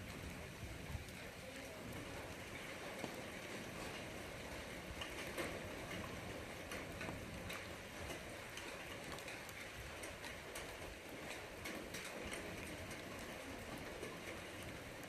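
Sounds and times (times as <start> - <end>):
raindrops ticking sharply: 0.0 - 15.0
steady rain falling: 0.0 - 15.0.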